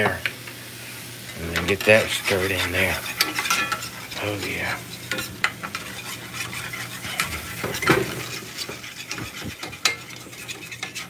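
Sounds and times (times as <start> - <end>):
metal spatula scraping skillet: 1.3 - 11.0.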